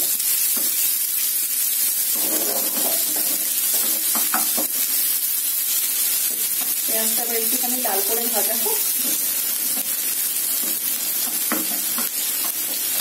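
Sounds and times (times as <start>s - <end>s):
onion sizzling in hot oil: 0.0s - 13.0s
spatula stirring in frying pan: 0.1s - 13.0s.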